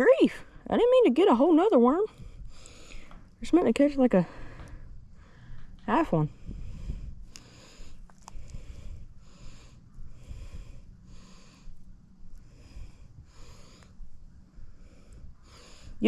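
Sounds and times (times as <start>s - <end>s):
low rumble: 0.0s - 16.0s
person breathing: 2.1s - 3.4s, 4.2s - 16.0s.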